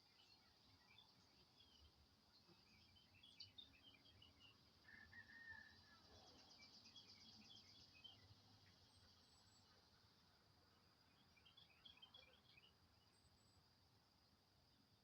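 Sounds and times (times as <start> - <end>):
faint birdsong chirps: 0.0 - 15.0
steady high insect hum: 0.0 - 15.0.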